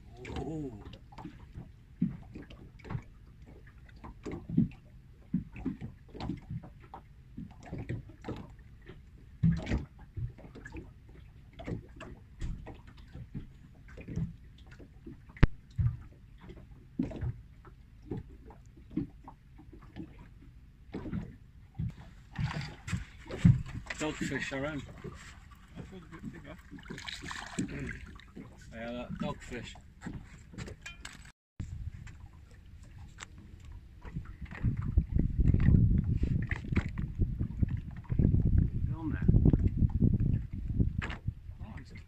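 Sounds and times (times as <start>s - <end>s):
waves lapping against boat hull: 0.0s - 42.0s.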